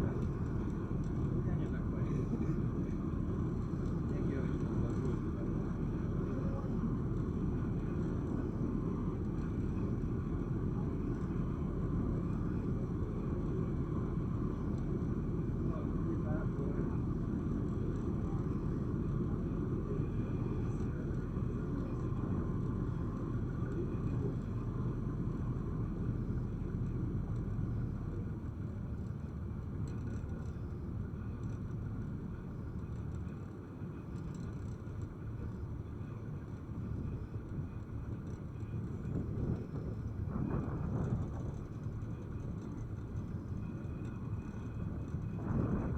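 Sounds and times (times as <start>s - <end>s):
ferry engine rumbling: 0.0s - 45.9s.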